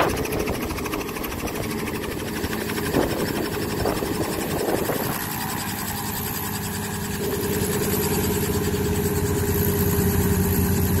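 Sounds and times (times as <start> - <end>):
helicopter engine drone: 0.0 - 11.0
steady whine: 0.0 - 11.0.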